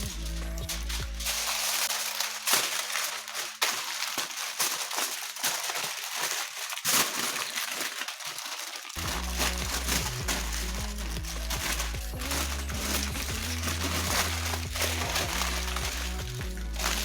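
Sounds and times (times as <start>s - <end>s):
aluminium foil crumpling: 0.0s - 17.0s.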